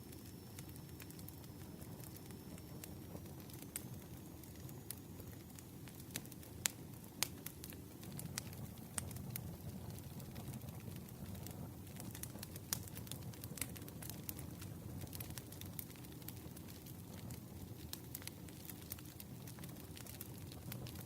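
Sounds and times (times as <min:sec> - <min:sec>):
low rumble of flames: 0:00.0 - 0:21.0
wood crackling and popping: 0:00.0 - 0:21.0.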